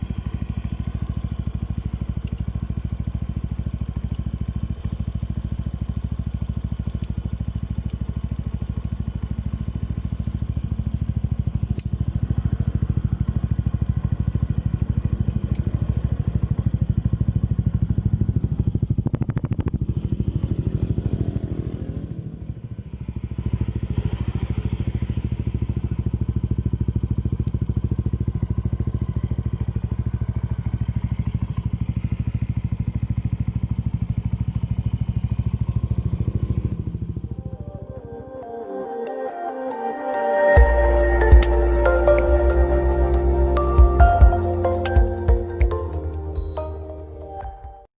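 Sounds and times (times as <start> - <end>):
motorcycle engine running: 0.0 - 38.5, 40.5 - 47.9.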